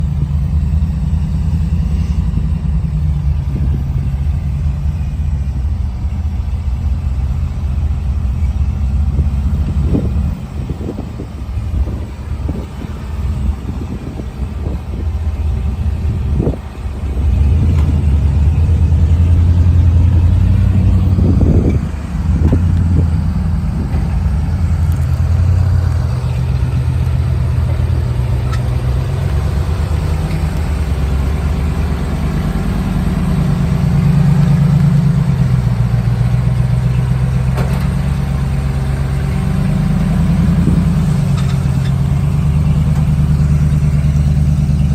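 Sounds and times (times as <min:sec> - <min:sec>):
engine knocks: 0:00.0 - 0:44.9
truck engine revving: 0:00.0 - 0:44.9.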